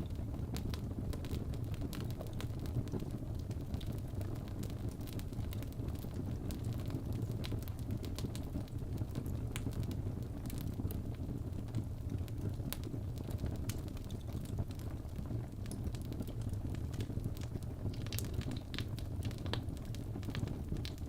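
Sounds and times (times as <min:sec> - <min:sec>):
fire crackles and pops: 0:00.0 - 0:21.0
low rumble of flame: 0:00.0 - 0:21.0.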